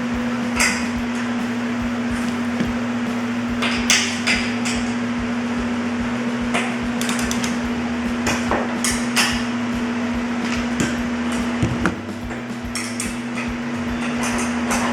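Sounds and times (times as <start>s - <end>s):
steady hum: 0.0s - 14.9s.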